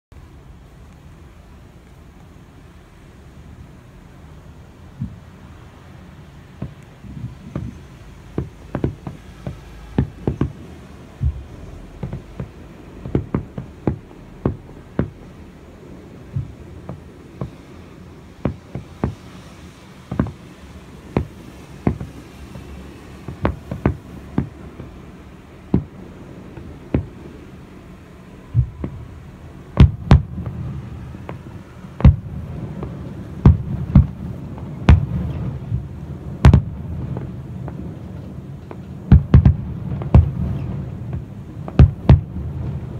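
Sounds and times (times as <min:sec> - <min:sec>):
firework shells bursting: 0:06.2 - 0:27.7, 0:28.5 - 0:42.9.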